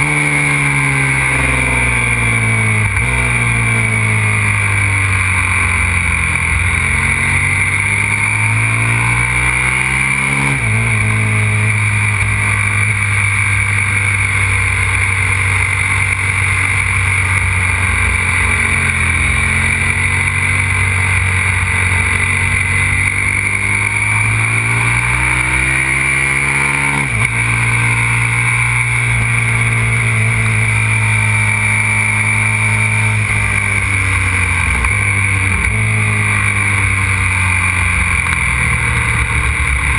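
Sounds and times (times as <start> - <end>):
motorcycle engine running hard: 0.0 - 39.9
steady rushing noise: 0.0 - 39.9.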